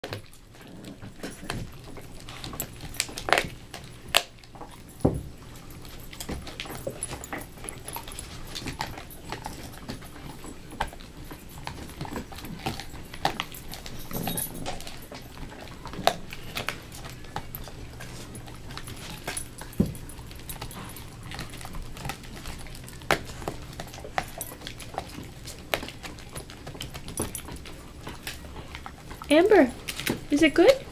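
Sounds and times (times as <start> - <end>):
dog gnawing a bone: 0.0 - 30.9.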